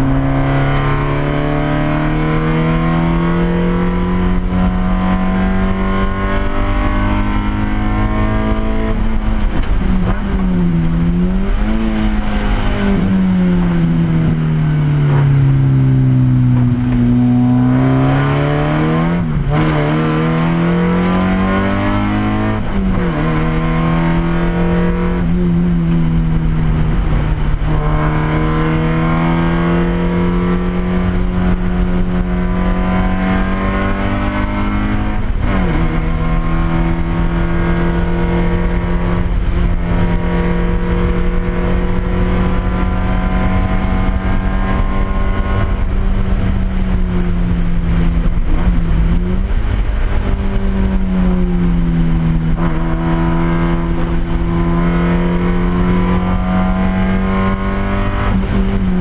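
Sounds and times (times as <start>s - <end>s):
race car engine with upshifts: 0.0s - 59.0s.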